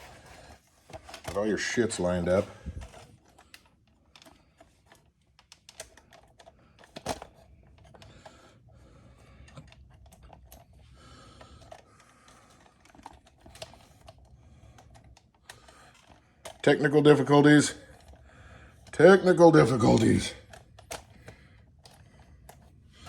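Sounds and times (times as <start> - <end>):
clicks and clatter of tools: 0.0 - 8.5, 9.4 - 16.7, 19.9 - 23.0.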